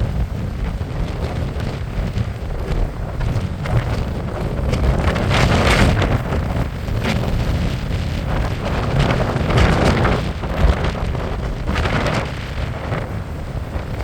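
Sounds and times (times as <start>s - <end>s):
sea surf on beach: 0.0s - 14.0s
wind buffeting microphone: 0.0s - 14.0s.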